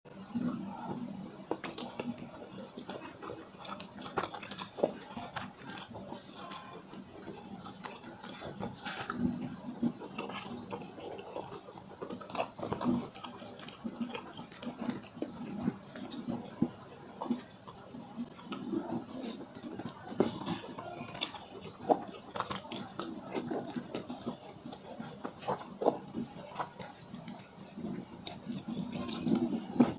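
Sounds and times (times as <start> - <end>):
wet chewing and mouth smacking: 0.1 - 29.9.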